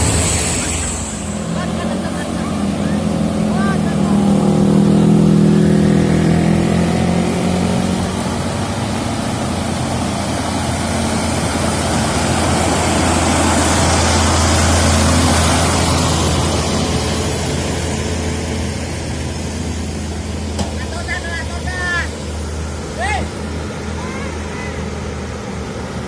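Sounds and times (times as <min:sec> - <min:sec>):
road noise: 0:00.0 - 0:26.0
vehicle engines humming: 0:00.0 - 0:26.0.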